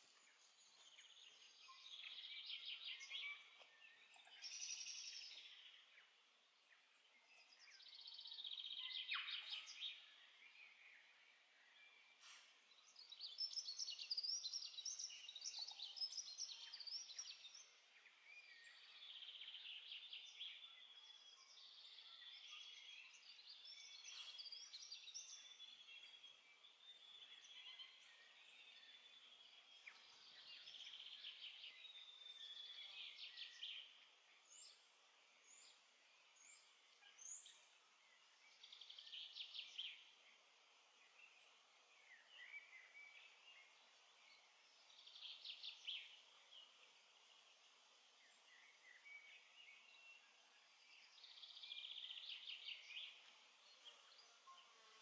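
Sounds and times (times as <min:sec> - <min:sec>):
faint birds chirping and warbling: 0:00.0 - 0:55.0.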